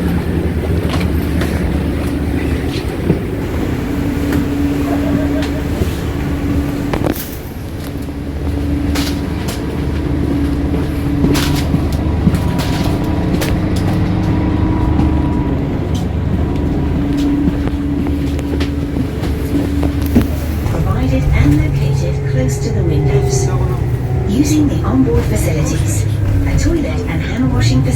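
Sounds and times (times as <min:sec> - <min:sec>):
coach engine rumbling: 0:00.0 - 0:27.9.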